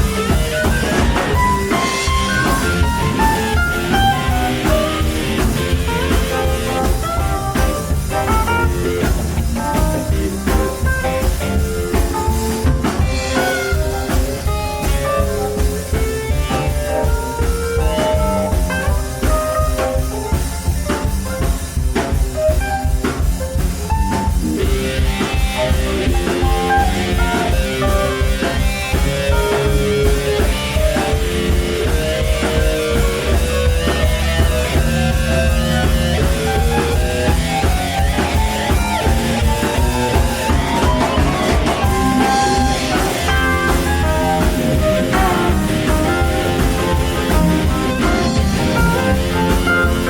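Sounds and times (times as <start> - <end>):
bass guitar: 0.0 - 50.0
drum kit beat: 0.0 - 50.0
electric guitar lines: 0.0 - 50.0.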